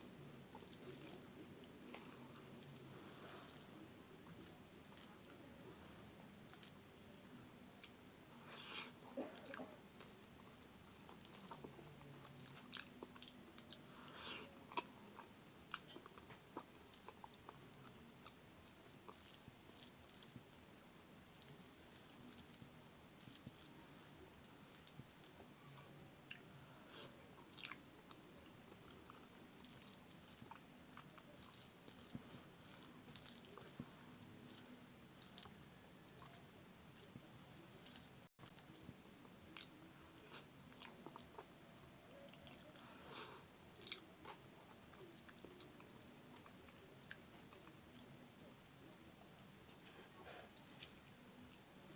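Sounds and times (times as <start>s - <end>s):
person chewing wet food: 0.0s - 5.5s, 6.3s - 51.9s.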